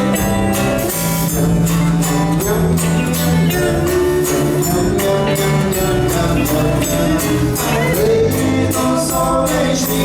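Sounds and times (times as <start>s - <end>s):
steady percussion beat: 0.0s - 10.0s.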